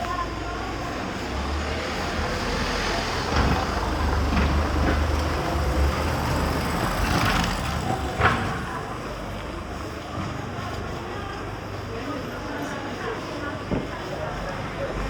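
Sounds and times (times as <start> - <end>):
street traffic passing: 0.0 - 15.0.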